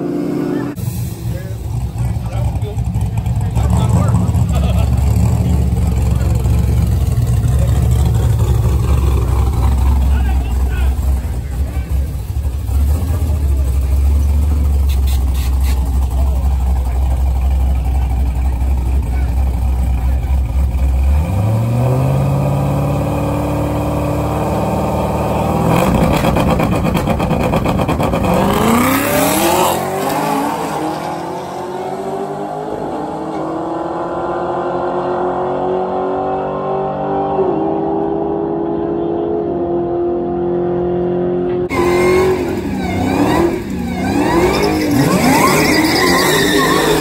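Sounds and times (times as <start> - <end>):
car engine accelerating: 0.0 - 47.0.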